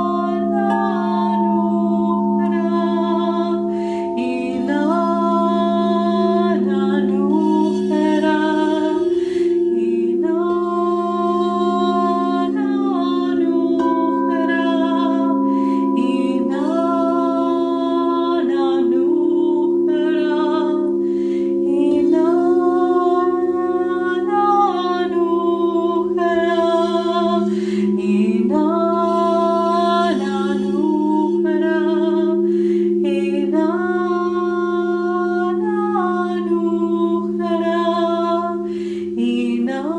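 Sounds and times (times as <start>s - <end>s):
crystal singing bowls ringing: 0.0s - 39.9s
woman singing wordless notes: 0.0s - 39.9s.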